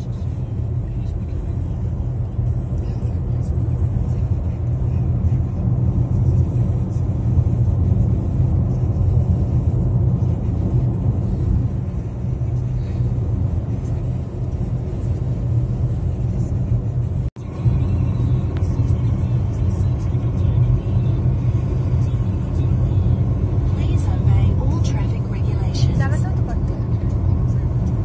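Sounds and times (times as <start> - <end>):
car driving at highway speed: 0.0 - 28.0.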